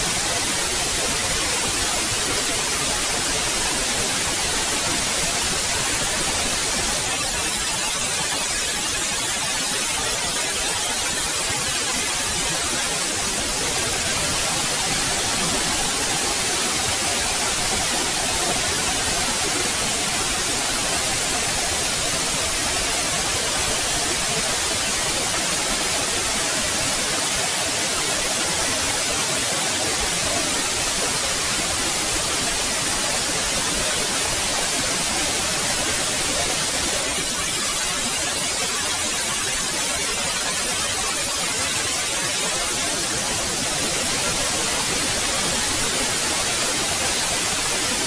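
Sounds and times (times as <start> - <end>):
white noise hiss: 0.0 - 48.0.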